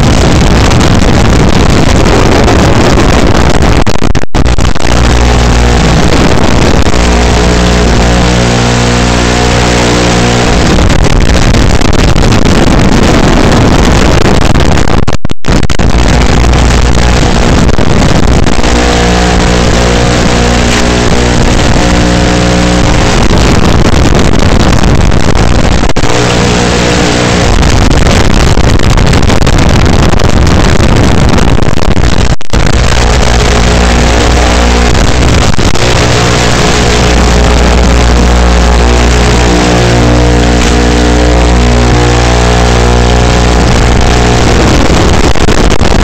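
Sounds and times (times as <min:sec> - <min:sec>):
buzzing hum: 0:00.0 - 0:46.0.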